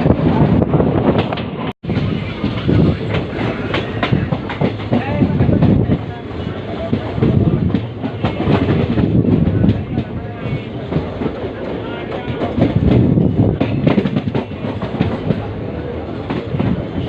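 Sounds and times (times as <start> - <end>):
train wheels clattering on rails: 0.2 - 17.0.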